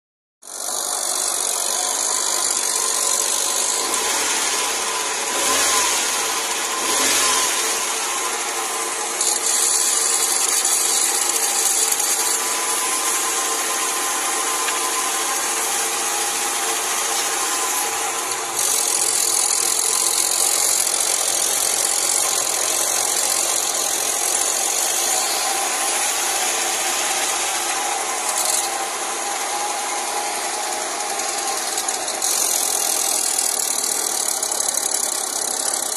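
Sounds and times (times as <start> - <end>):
car engine idling: 0.6 - 35.9.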